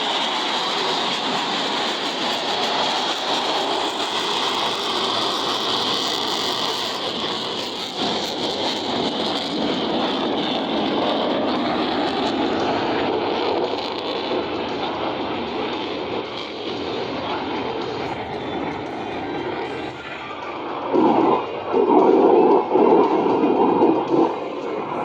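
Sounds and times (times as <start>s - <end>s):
jet noise: 0.0s - 25.0s.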